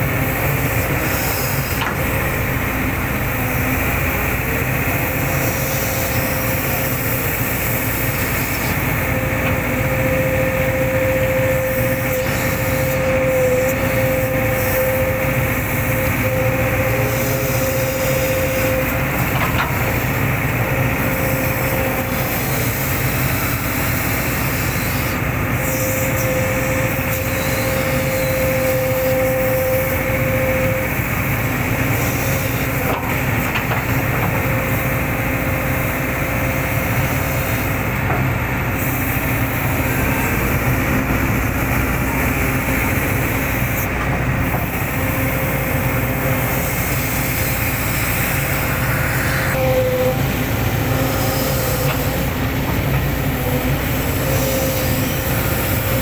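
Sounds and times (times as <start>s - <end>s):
excavator engine and machinery: 0.0s - 56.0s
high whine: 0.0s - 56.0s.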